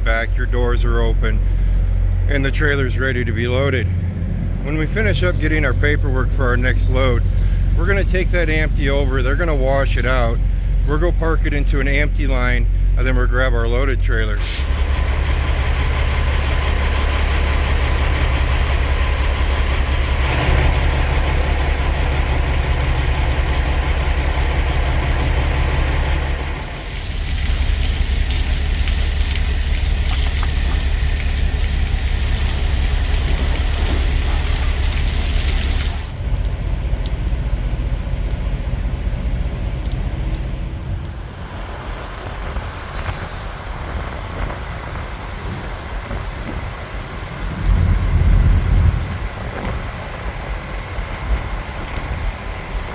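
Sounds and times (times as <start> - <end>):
truck diesel engine droning: 0.0 - 38.9, 39.5 - 52.9.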